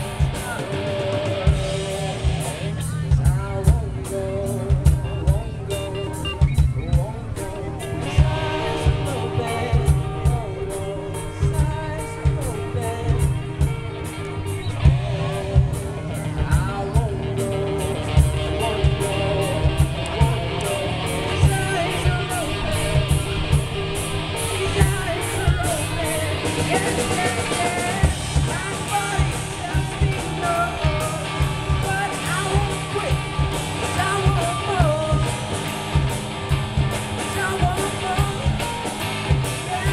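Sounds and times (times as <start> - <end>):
drum kit steady beat: 0.0 - 39.9
electric guitars: 0.0 - 39.9
person singing: 0.0 - 39.9.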